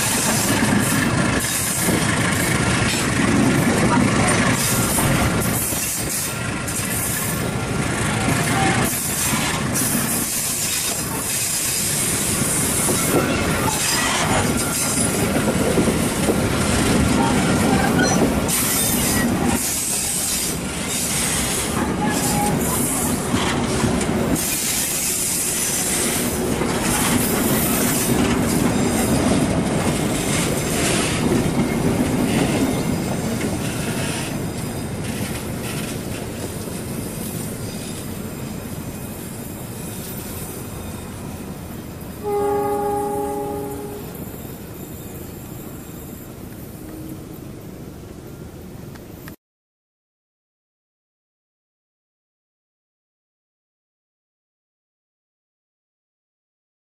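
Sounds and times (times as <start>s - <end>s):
train wheels rumbling on rail: 0.0s - 49.4s.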